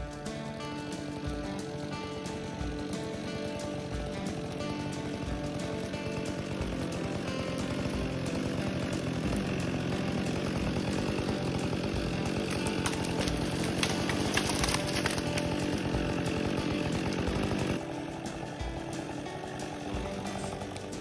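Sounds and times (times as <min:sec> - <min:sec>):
chainsaw cutting at high revs: 0:00.0 - 0:21.0.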